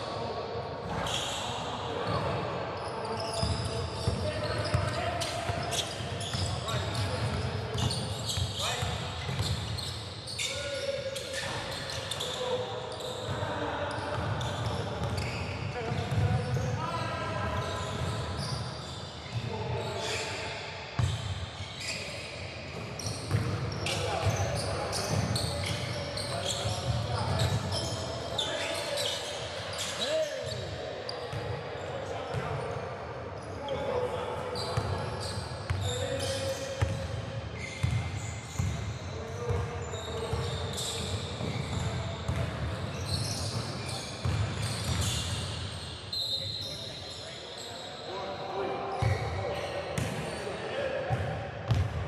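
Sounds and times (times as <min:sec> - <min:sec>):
sneakers squeaking: 0:00.8 - 0:32.8, 0:33.4 - 0:52.0.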